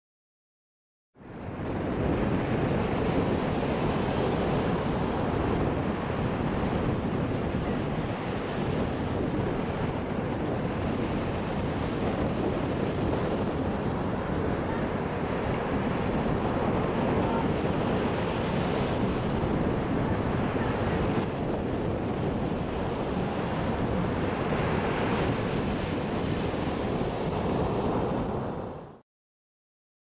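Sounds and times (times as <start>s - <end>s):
surf breaking on beach: 1.4s - 29.0s.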